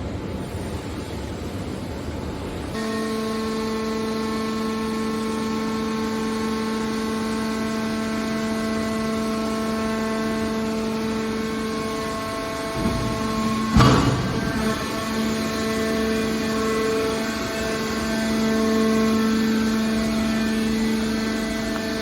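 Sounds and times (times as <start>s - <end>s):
hydraulic pump rumbling and humming: 0.0s - 22.0s.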